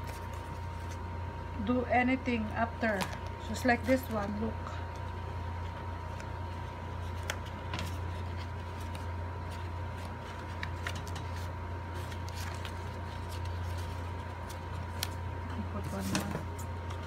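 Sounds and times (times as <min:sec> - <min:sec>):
paper rustling and crackling: 0:00.0 - 0:01.1, 0:02.8 - 0:17.0
steady low hum: 0:00.0 - 0:17.0.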